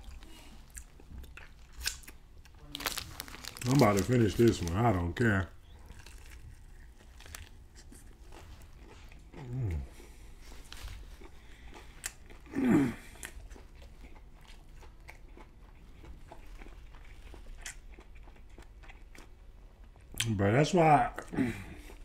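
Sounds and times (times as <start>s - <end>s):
chewing crispy food: 0.0s - 22.0s.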